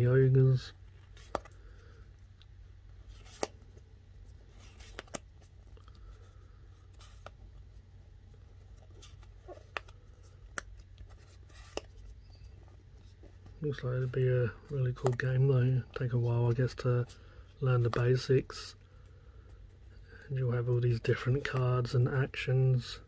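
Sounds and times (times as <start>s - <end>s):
low steady hum: 0.0s - 23.0s
cards rustling: 0.2s - 22.4s.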